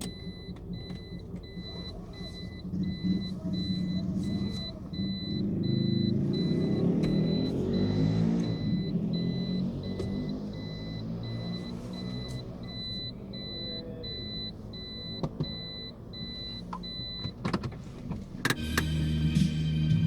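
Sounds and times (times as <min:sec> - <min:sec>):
electronic beeping: 0:00.0 - 0:17.4
car engine idling: 0:00.0 - 0:20.0.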